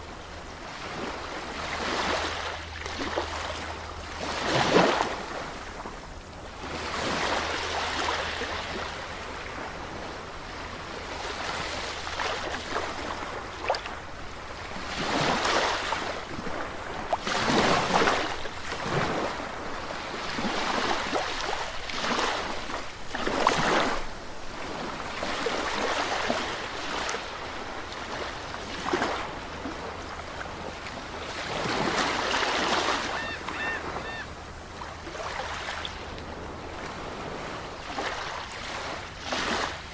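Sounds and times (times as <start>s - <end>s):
sea waves breaking on a beach: 0.0s - 39.9s.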